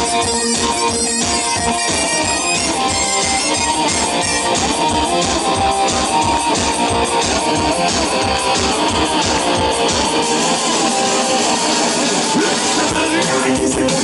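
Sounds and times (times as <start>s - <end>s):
wind instrument melody: 0.0s - 13.2s
distorted electric guitar: 0.0s - 14.0s
fast drum beat: 0.0s - 14.0s.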